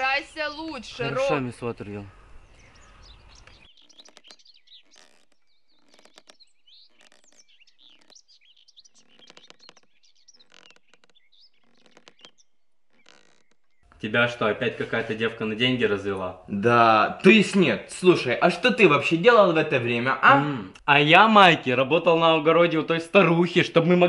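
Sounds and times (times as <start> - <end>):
faint birdsong chirps: 0.0 - 20.9.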